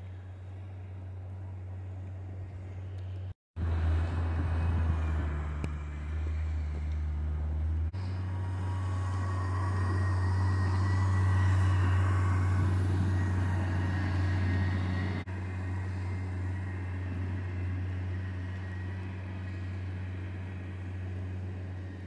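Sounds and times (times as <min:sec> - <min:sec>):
wheel loader engine running: 0:01.0 - 0:22.0.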